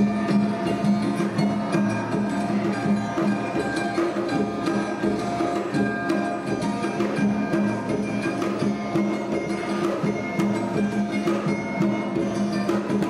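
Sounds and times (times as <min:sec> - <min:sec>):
quick percussion strikes: 0:00.0 - 0:13.0.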